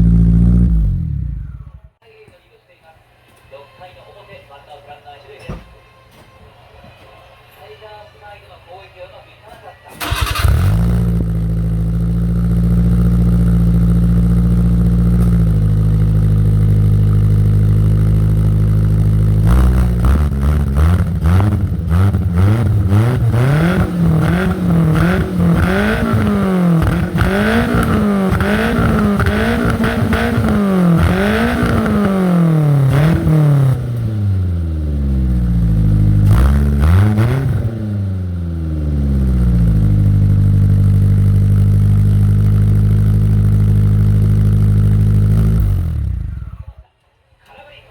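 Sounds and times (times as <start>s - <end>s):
car engine idling and revving: 0.0s - 1.9s, 10.0s - 46.8s.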